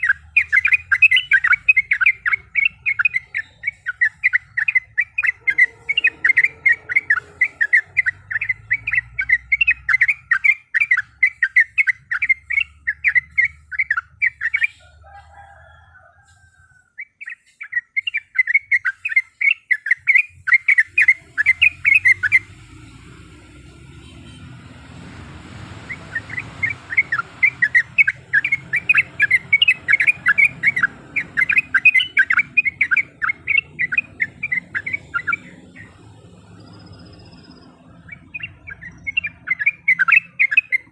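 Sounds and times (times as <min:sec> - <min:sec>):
bird chirping rapidly: 0:00.0 - 0:15.1, 0:16.8 - 0:40.9.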